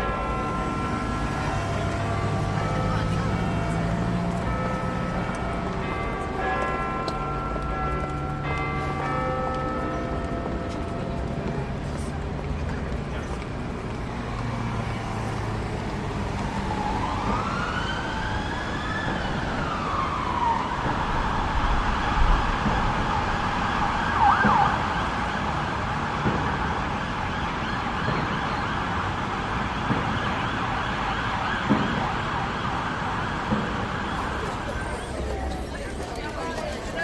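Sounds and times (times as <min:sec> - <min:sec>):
emergency vehicle siren: 0:00.0 - 0:08.4, 0:13.8 - 0:37.0
street traffic: 0:00.0 - 0:37.0.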